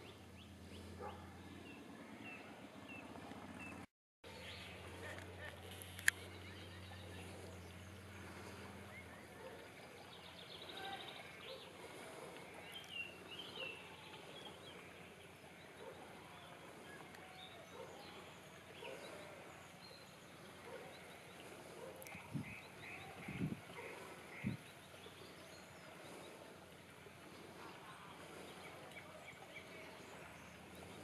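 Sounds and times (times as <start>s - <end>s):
distant birds chirping: 0.0s - 31.0s
low steady hum: 0.0s - 31.0s.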